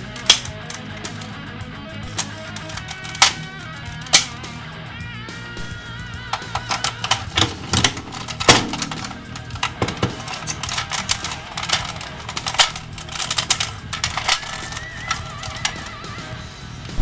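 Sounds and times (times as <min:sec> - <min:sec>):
plastic toy parts clicking: 0:00.0 - 0:01.4, 0:02.1 - 0:04.6, 0:06.3 - 0:17.0
background music: 0:00.0 - 0:17.0.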